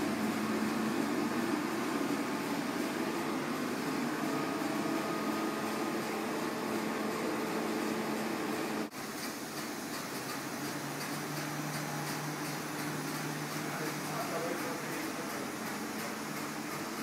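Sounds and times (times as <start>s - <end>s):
printing press mechanical whir: 0.0s - 17.0s.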